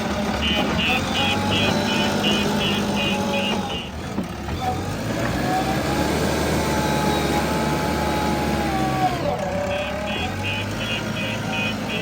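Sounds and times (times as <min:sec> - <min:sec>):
diesel engine of earthmoving machine: 0:00.0 - 0:12.0.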